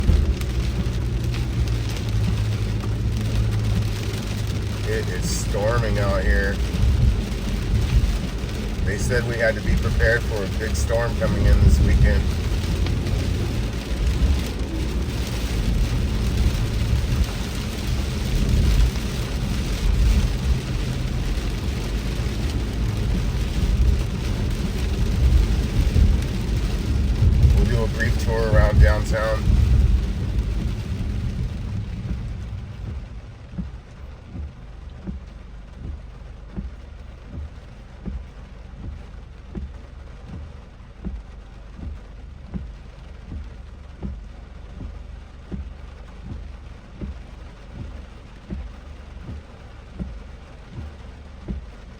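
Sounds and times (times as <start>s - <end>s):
heavy rain striking car: 0.0s - 51.9s
road and engine rumble: 0.0s - 51.9s
windshield wiper thumps: 0.0s - 51.9s.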